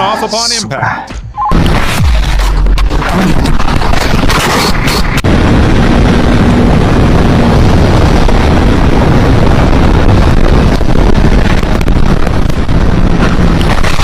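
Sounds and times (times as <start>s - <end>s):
wind rush on microphone: 2.6s - 14.0s.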